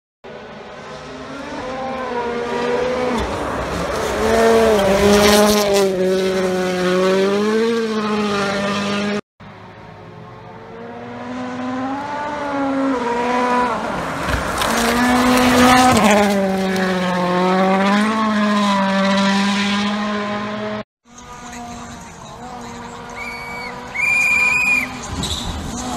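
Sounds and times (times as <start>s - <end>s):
rally car engine passing: 0.3s - 25.9s.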